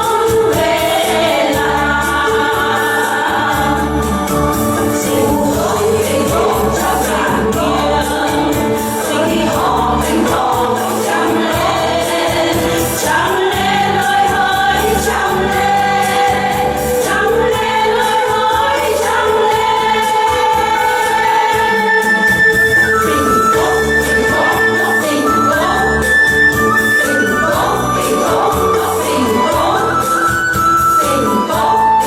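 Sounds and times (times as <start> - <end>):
group of voices singing: 0.0 - 32.0
instrumental accompaniment: 0.0 - 32.0.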